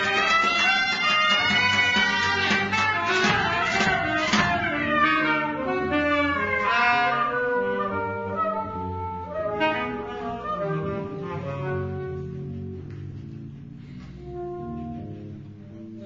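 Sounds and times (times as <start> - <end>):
saxophones holding notes: 0.0 - 16.0.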